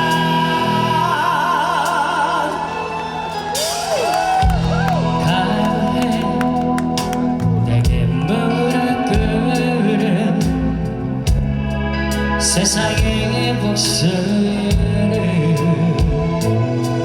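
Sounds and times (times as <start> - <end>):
live rock band playing ballad: 0.0 - 17.0
person singing: 0.0 - 17.0.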